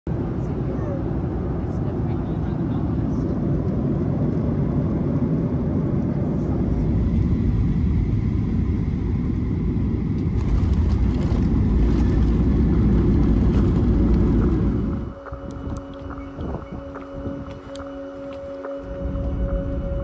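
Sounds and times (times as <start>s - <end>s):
jet airliner roar inside cabin: 0.1s - 20.0s.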